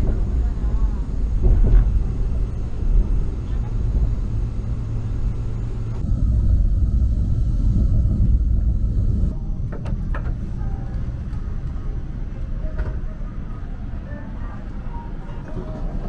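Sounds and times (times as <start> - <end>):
train rumble inside cabin: 0.0 - 16.0.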